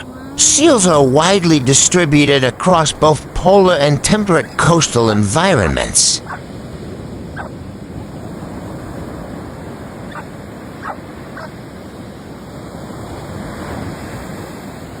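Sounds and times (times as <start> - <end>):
surf washing on shore: 0.0 - 15.0.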